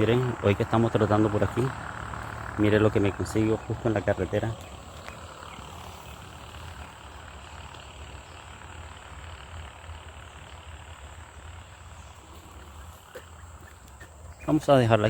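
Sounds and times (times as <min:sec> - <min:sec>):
crickets chirring: 0:00.0 - 0:15.0
highway traffic rumble: 0:00.0 - 0:15.0.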